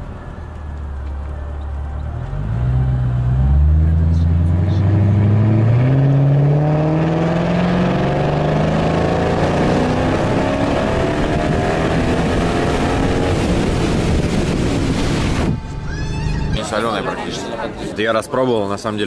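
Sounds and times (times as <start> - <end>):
vehicle engine accelerating: 0.0 - 17.3.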